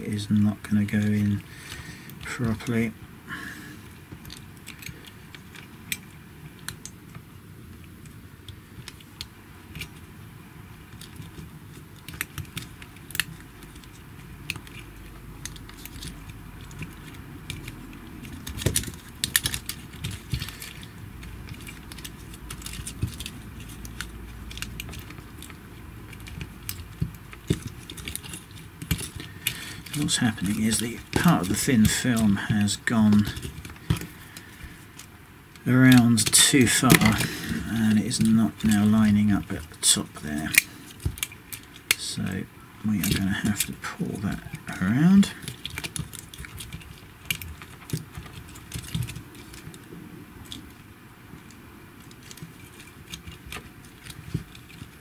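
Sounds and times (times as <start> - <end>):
plastic and metal parts clicking: 4.0 - 7.2, 7.8 - 10.1, 10.9 - 42.3, 43.0 - 55.0.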